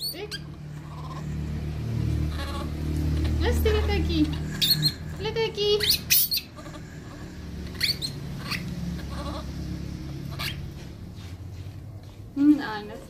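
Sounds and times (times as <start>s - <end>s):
young animal crying: 0.0s - 10.8s.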